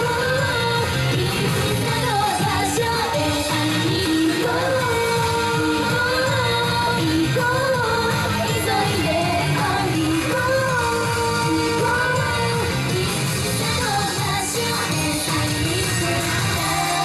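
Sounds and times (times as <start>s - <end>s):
upbeat pop backing track: 0.0s - 17.0s
women singing: 0.0s - 17.0s.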